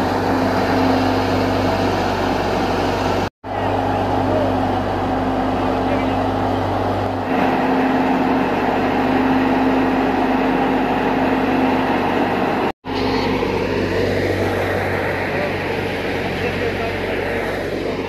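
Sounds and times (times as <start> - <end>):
thresher droning: 0.0 - 18.0.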